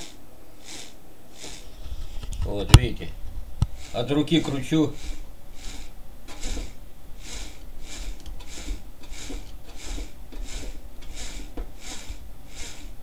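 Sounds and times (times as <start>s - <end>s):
rhythmic rubbing swish of rotor: 0.0s - 13.0s.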